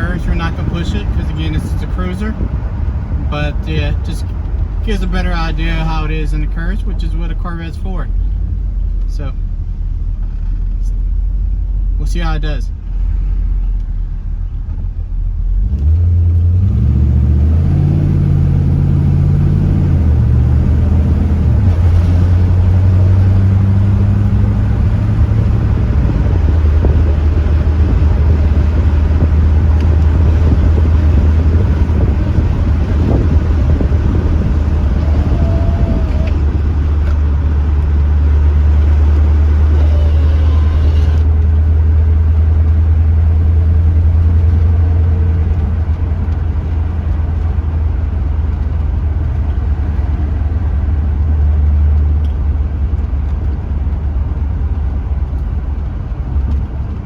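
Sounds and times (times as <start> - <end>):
car engine drone: 0.0 - 57.0
road noise: 0.0 - 57.0.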